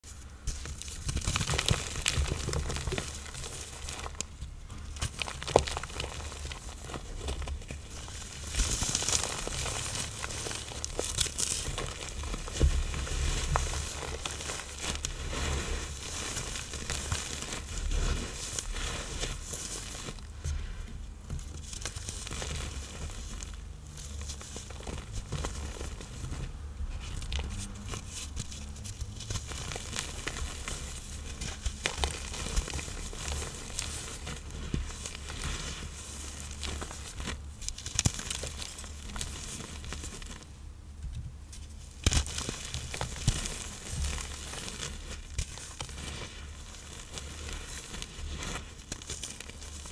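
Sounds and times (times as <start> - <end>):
blocks of powder crunching and crumbling: 0.0 - 49.9.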